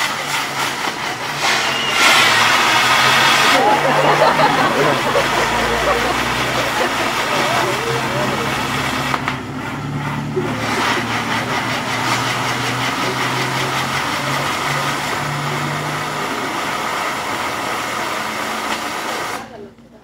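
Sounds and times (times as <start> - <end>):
fireworks hissing and crackling: 0.0 - 20.0.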